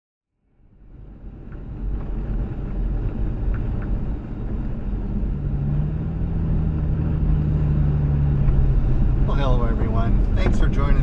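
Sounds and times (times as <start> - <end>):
engine and road noise rumble: 0.3 - 11.0.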